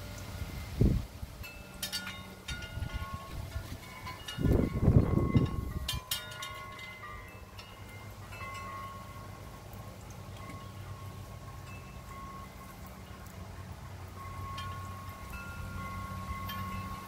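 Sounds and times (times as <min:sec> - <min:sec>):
low steady hum: 0:00.0 - 0:17.0
wind chimes ringing: 0:01.4 - 0:17.0.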